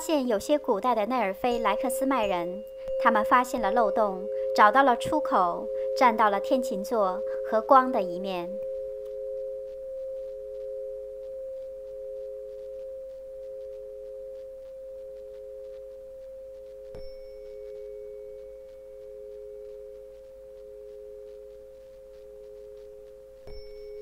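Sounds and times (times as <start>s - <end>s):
two steady pure tones: 0.0s - 24.0s.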